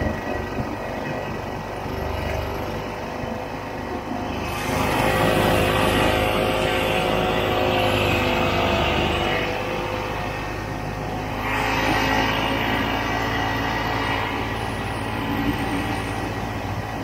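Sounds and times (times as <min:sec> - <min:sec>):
snowmobile two-stroke engine running: 0:00.0 - 0:17.0.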